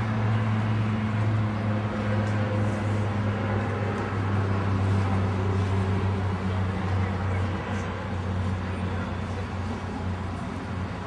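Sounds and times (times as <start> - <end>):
city traffic noise: 0.0 - 11.0
low mechanical hum: 0.0 - 11.0.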